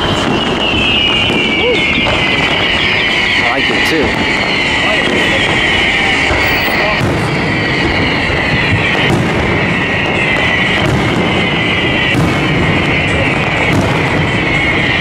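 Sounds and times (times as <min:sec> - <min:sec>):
fireworks bursts and crackle: 0:00.0 - 0:15.0.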